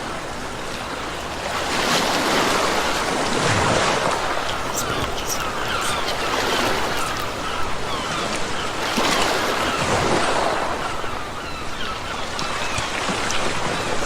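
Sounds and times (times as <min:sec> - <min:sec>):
sea waves breaking on shore: 0:00.0 - 0:14.0.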